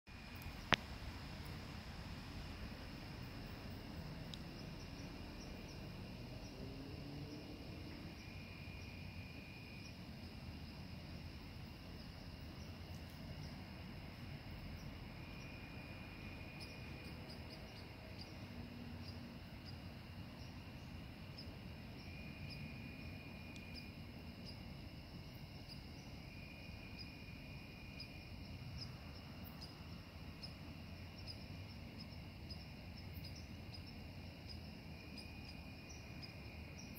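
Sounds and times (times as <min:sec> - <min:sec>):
crickets chirring: 0:00.1 - 0:36.9
low background rumble: 0:00.1 - 0:36.9
lower insect trill: 0:00.1 - 0:36.9.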